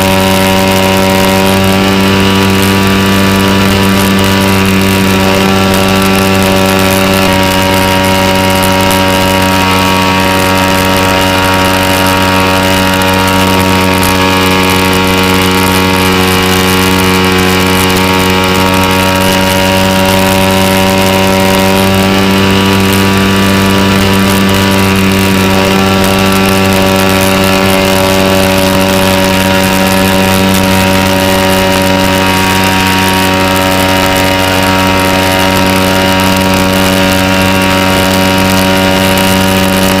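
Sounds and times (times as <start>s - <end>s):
model airplane engine running: 0.0s - 40.0s.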